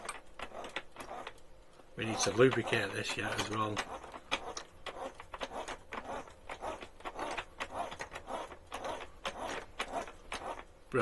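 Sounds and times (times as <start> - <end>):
model engine clicks and scrapes: 0.0 - 1.4, 2.0 - 10.7.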